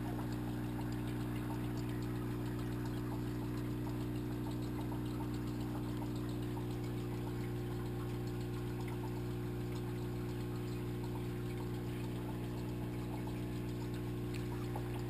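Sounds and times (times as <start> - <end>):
aquarium pump hum underwater: 0.0 - 15.0
faint ticks: 0.0 - 15.0.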